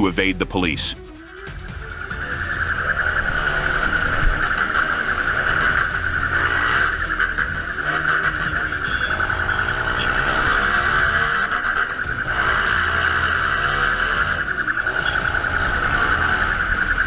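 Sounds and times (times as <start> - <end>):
road noise: 0.0 - 17.0
steady high-pitched tone: 1.0 - 17.0
vehicle engine: 1.0 - 17.0.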